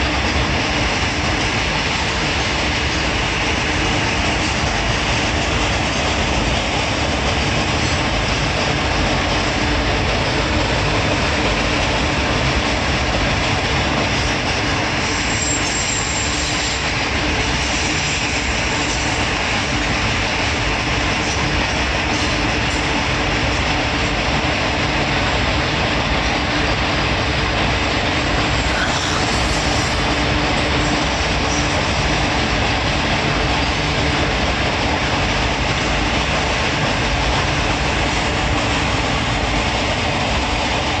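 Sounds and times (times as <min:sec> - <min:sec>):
freight train rolling past: 0:00.0 - 0:41.0.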